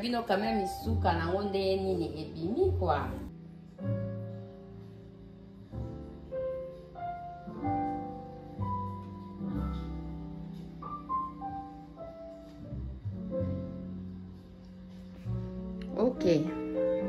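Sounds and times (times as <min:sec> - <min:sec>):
slow instrumental music: 0:00.0 - 0:17.0.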